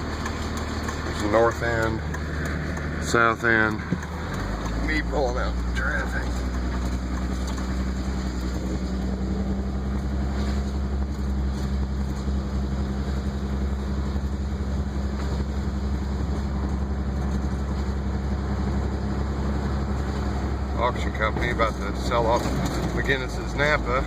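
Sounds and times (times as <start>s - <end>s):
car engine hum: 0.0s - 24.0s
road noise rush: 0.0s - 24.0s.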